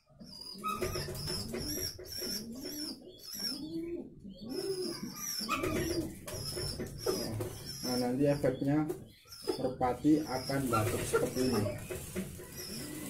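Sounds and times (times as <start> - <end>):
pigeons cooing: 0.1 - 13.0.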